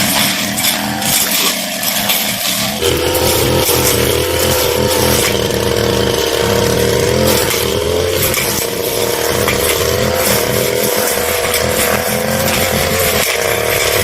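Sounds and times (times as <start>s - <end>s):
brush cutter engine running: 0.0s - 14.0s.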